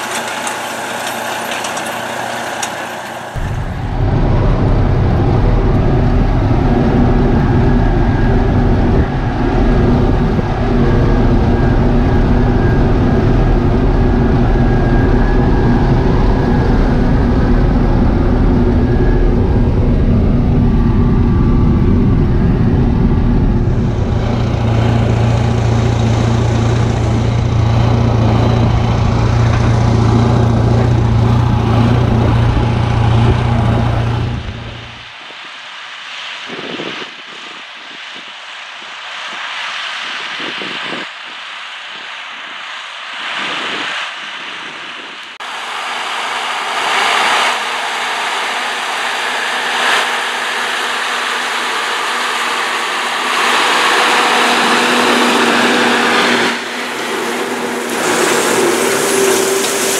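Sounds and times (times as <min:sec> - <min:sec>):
tractor diesel engine under load: 0:00.0 - 0:35.1, 0:45.2 - 0:59.9.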